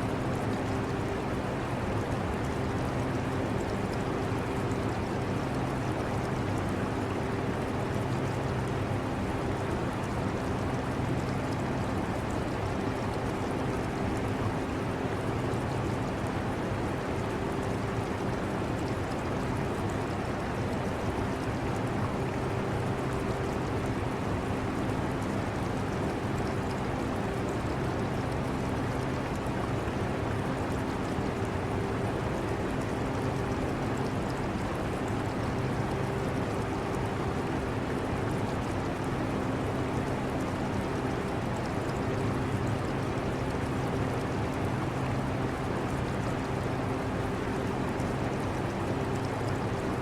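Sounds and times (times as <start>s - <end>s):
trickling aquarium water: 0.0s - 50.0s.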